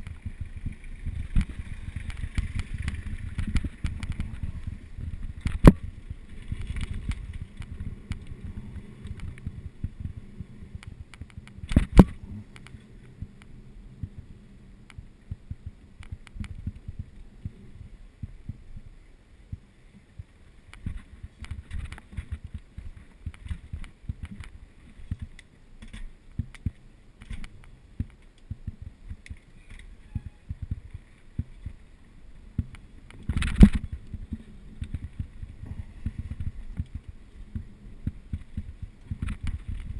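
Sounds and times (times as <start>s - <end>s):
bike rolling low rumble: 0.0s - 39.9s.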